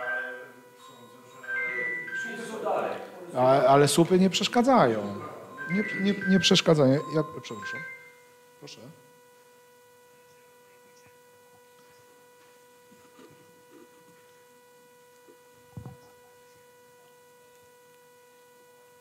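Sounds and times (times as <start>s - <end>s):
steady electrical whine: 0.0s - 19.0s.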